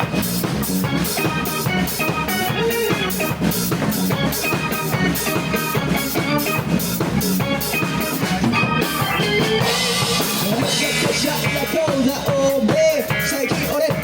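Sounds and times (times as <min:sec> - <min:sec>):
bass: 0:00.0 - 0:14.0
drum kit beat: 0:00.0 - 0:14.0
guitar: 0:00.0 - 0:14.0
keyboard: 0:00.0 - 0:14.0.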